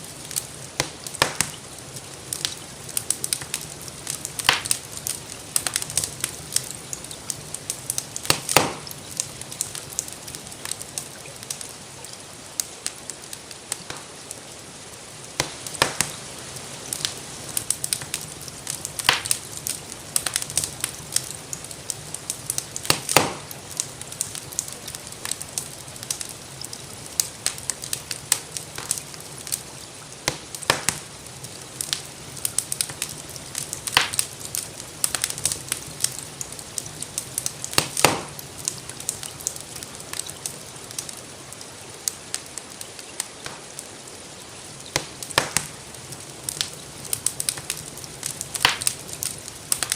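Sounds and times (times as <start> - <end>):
gentle rain: 0.0 - 49.9
wood fire crackling: 0.0 - 49.9.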